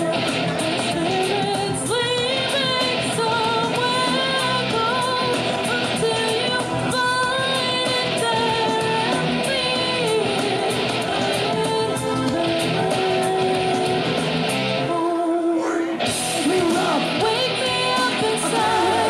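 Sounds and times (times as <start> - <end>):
rock backing track with guitar: 0.0 - 19.0
woman singing karaoke: 0.0 - 19.0.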